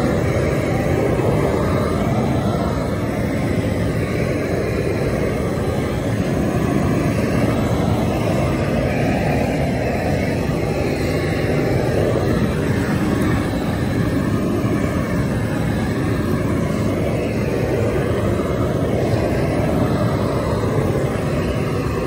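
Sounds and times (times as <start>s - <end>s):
gas blowtorch rushing: 0.0s - 22.0s.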